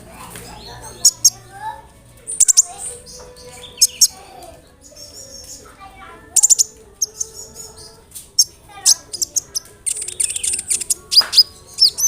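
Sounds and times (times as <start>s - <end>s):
sunbird singing chirps and trills: 0.5s - 1.5s, 2.3s - 12.0s.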